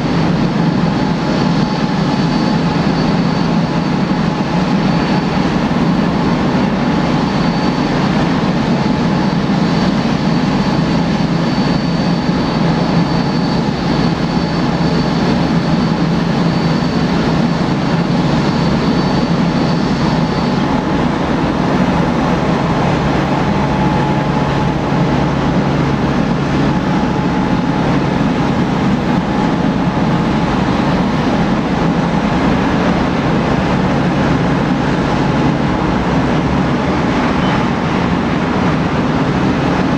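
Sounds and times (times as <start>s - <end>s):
high thin engine whine: 0.0s - 39.9s
jet engines at taxi power: 0.0s - 39.9s.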